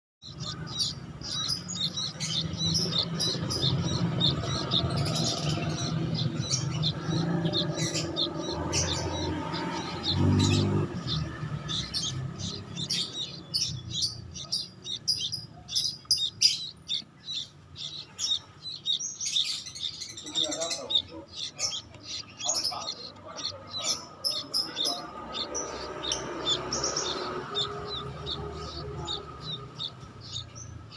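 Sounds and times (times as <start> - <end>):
bird chick chirping: 0.2 - 30.9.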